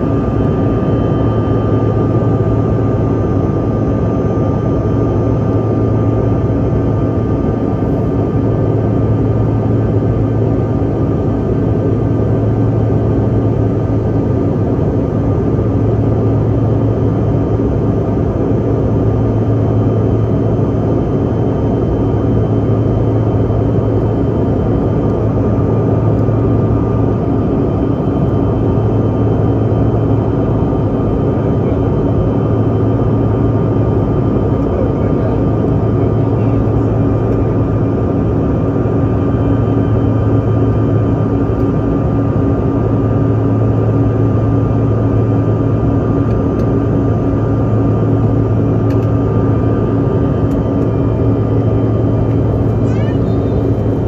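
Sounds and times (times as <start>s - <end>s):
jet engine cabin drone: 0.0s - 54.0s.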